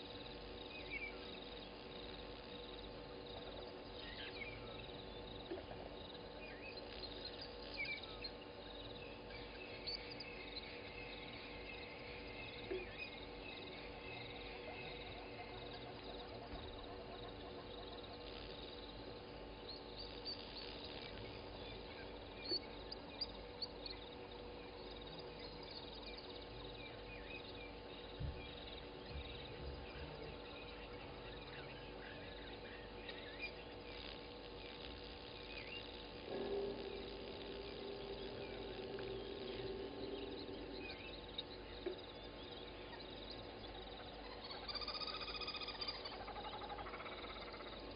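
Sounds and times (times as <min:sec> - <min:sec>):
frogs and insects calling: 0:00.0 - 0:47.9.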